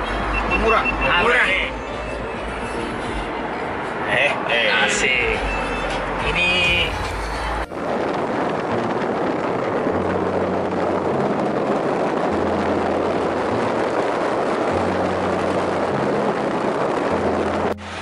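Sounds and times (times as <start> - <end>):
low steady tones shifting pitch: 0.0 - 18.0
wind and tyre noise: 0.0 - 18.0.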